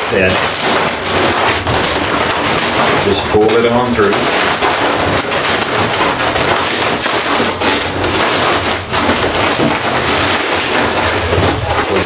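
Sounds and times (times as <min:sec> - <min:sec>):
balloons squeaking and crackling: 0:00.0 - 0:12.0.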